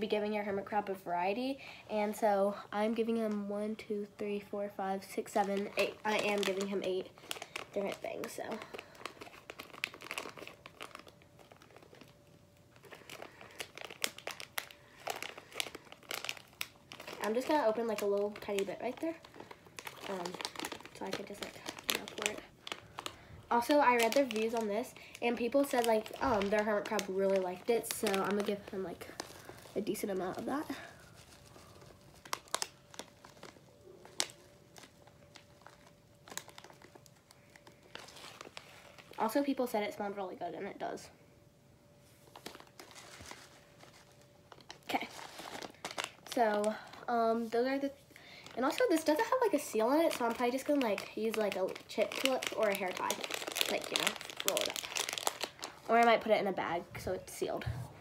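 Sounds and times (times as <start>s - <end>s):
plastic bag crinkling: 0.0s - 41.0s, 42.0s - 58.0s.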